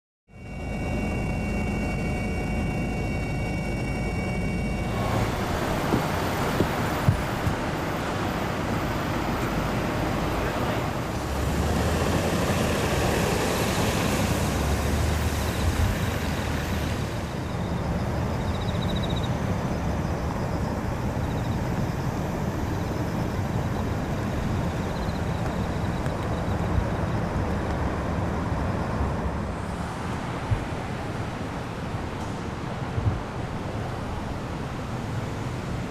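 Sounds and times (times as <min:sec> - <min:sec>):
road traffic rumble: 0:00.3 - 0:35.9
storm wind and rain: 0:04.9 - 0:35.9.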